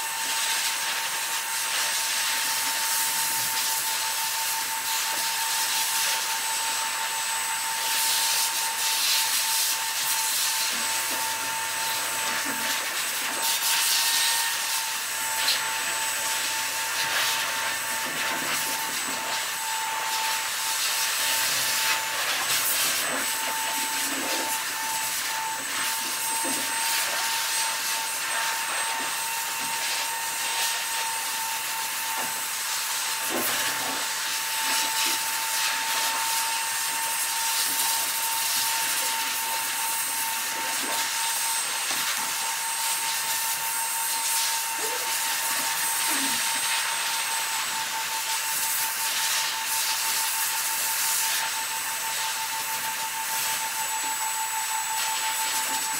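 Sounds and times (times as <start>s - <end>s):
electric blower motor whining: 0.0s - 55.9s.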